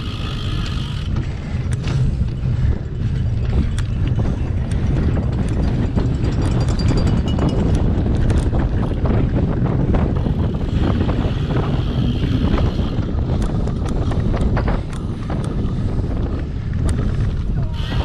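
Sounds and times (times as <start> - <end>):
bike knocks and rattles: 0.0 - 17.9
wind buffeting microphone: 0.0 - 18.0.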